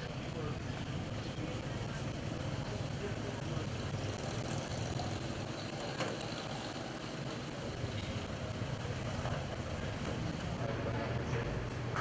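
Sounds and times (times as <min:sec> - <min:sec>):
low engine hum of traffic: 0:00.0 - 0:12.0
motorbikes passing: 0:00.0 - 0:12.0.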